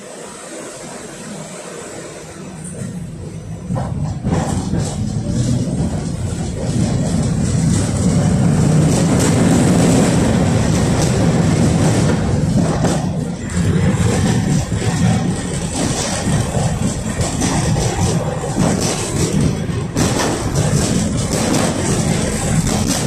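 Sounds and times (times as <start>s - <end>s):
traction motors whining: 0.0s - 23.0s
tram wheels on rails: 0.0s - 23.0s.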